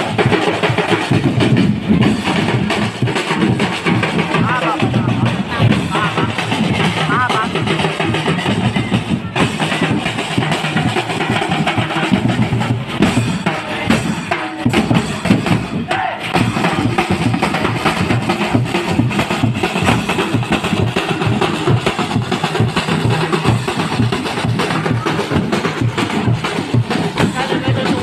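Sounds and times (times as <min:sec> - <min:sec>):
marching band drums beating: 0:00.0 - 0:28.0.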